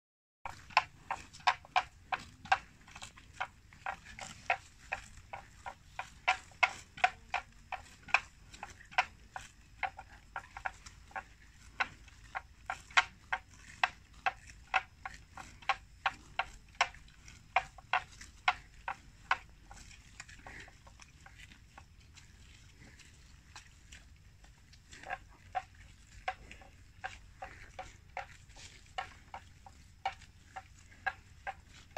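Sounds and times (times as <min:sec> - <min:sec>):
buffalo chewing with crunching clicks: 0:00.4 - 0:31.9.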